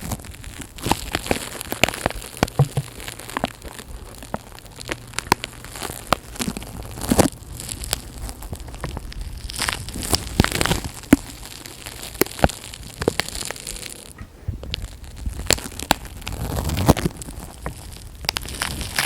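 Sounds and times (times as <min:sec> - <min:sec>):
crinkling and crackling: 0:00.0 - 0:19.0.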